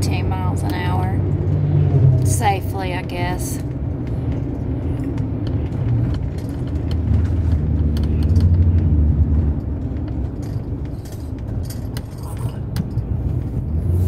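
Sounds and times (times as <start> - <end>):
van road and engine rumble: 0.0 - 14.0.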